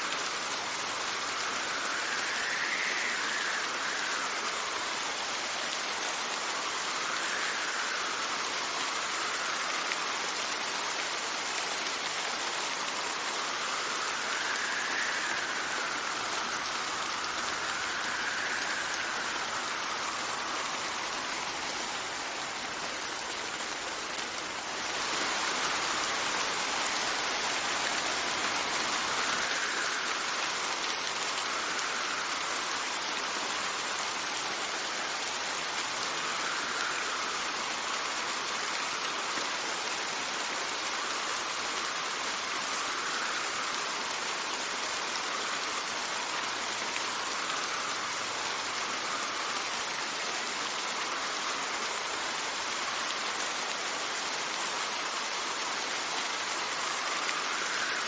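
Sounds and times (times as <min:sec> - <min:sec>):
steady rain: 0:00.0 - 0:58.0
wind: 0:00.0 - 0:58.0.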